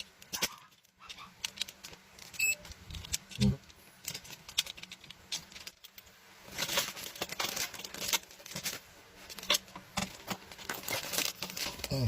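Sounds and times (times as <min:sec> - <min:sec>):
clicks and crackles of handling: 0:00.0 - 0:12.0
rustling: 0:00.0 - 0:12.0.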